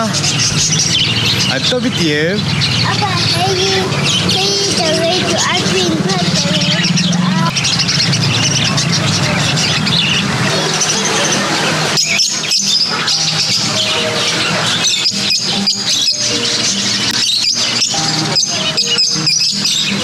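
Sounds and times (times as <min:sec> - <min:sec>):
rhythmic background music: 0:00.0 - 0:20.0
small birds chirping: 0:00.0 - 0:20.0.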